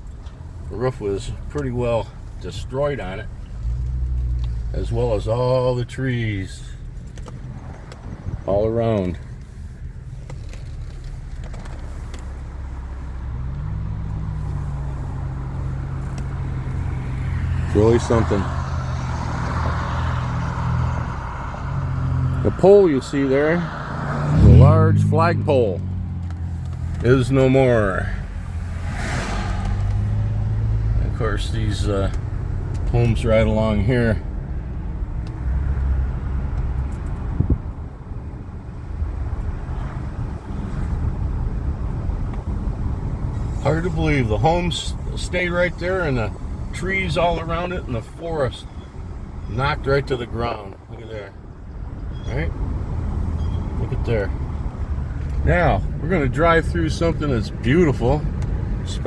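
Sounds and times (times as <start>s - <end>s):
car engine accelerating: 0.0s - 59.0s
road noise: 0.0s - 59.0s.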